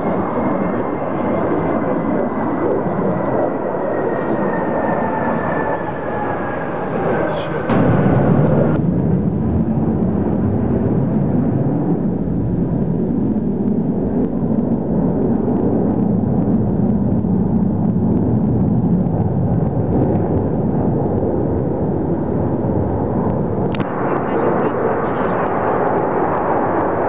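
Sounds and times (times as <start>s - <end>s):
jet fighter engines roaring overhead: 0.0s - 27.0s.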